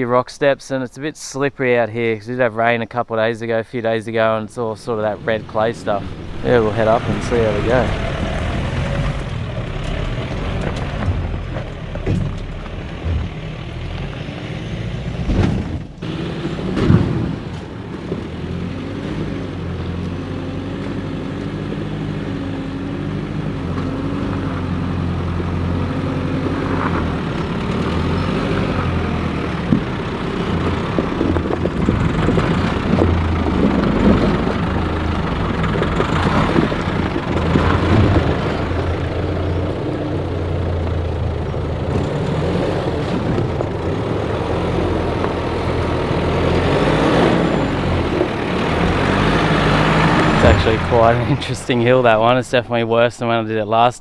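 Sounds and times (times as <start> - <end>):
engine at low revs: 4.8 - 52.6
vehicle knocks and thuds: 5.0 - 14.1, 15.1 - 21.0, 23.6 - 52.2.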